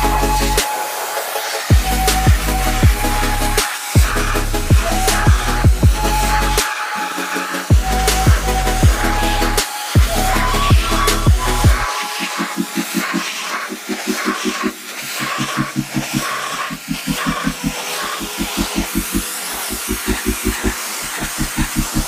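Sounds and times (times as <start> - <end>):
pressure washer jet hissing: 0.0 - 22.0
pump pulsing: 0.0 - 22.0.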